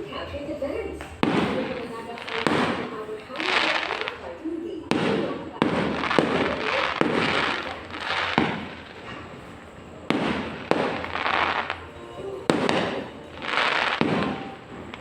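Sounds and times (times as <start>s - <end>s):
firework crackling: 0.0s - 15.0s
firework bangs: 1.0s - 15.0s.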